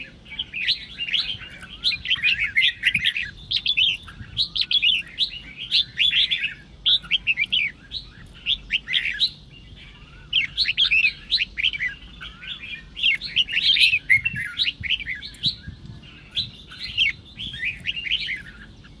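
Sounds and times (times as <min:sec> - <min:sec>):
bird song chattering whistles: 0:00.0 - 0:19.0.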